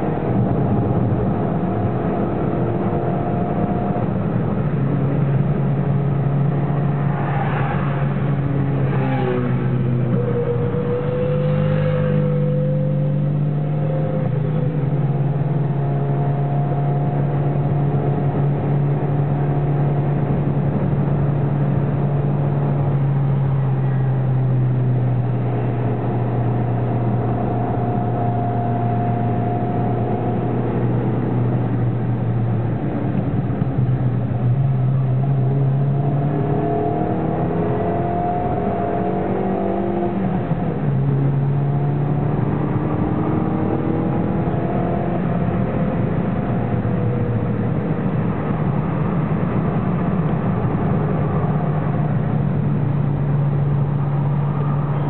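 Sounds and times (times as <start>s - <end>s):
car engine pulling hard: 0.0s - 55.0s
tyre and road noise: 0.0s - 55.0s.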